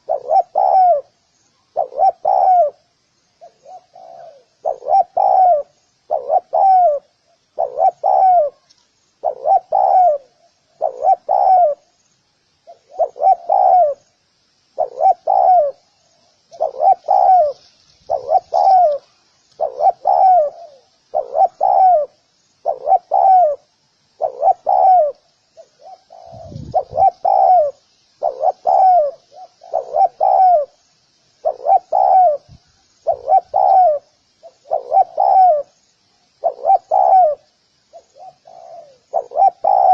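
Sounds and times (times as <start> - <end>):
dove cooing: 0.0 - 11.9, 12.6 - 14.1, 14.8 - 30.8, 31.4 - 35.8, 36.4 - 39.9.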